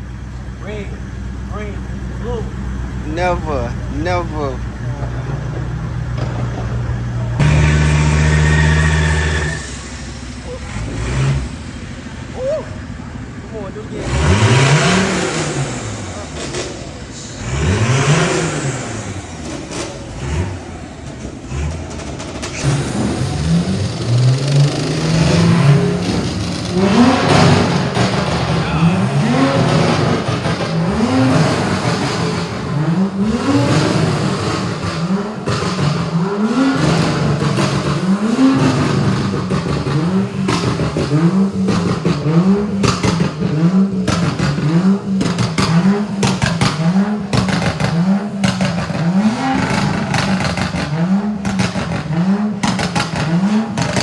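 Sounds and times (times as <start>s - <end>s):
car engine revving in blips: 0.0s - 54.0s.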